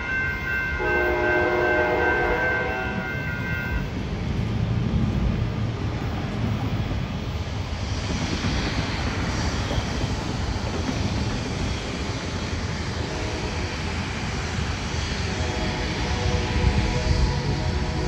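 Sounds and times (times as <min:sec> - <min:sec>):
jet engines taxiing: 0:00.0 - 0:18.0
passing train rumble: 0:00.0 - 0:18.0.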